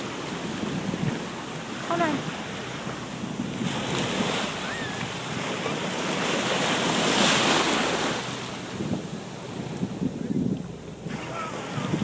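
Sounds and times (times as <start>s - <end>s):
wave breaking on beach: 0.0s - 12.0s
wind buffeting microphone: 0.0s - 12.0s.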